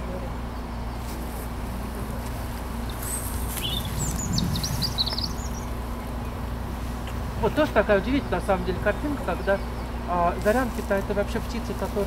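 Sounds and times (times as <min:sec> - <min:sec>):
robin singing: 0:00.0 - 0:12.0
steady low rumble: 0:01.3 - 0:12.0.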